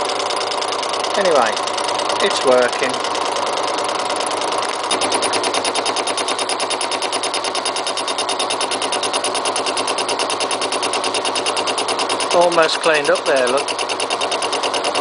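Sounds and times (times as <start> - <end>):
milling cutter chattering on metal: 0.0 - 15.0
milling machine running: 0.0 - 15.0.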